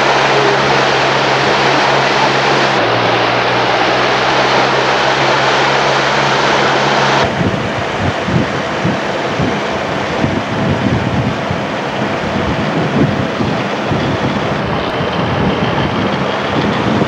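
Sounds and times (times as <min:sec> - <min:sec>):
engine drone with hiss: 0:00.0 - 0:17.0.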